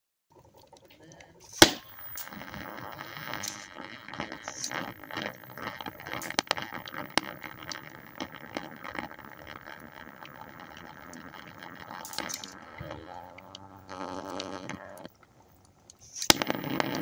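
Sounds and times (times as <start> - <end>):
crackles and sharp pops: 0.3 - 17.0
bubbling watery gurgle: 1.8 - 15.2, 16.3 - 17.0.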